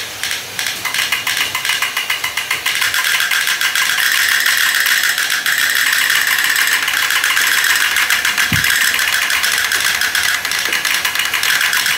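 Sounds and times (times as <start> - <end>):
toy tanks rattling: 0.0 - 11.9.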